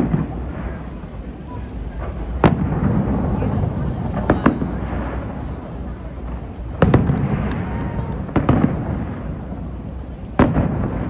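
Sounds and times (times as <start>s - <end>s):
firework bangs: 0.0s - 11.0s
firework crack: 0.0s - 11.0s
low rumble of booms: 0.0s - 11.0s.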